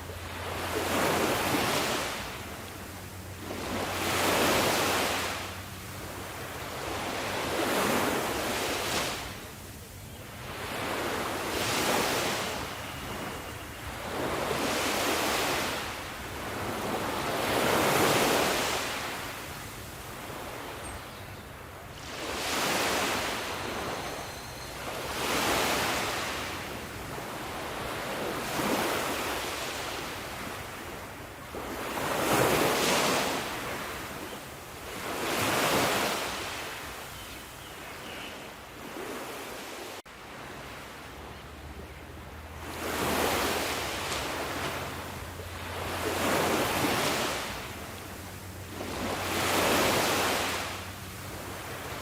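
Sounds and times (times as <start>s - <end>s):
sea waves breaking on shore: 0.0s - 52.0s.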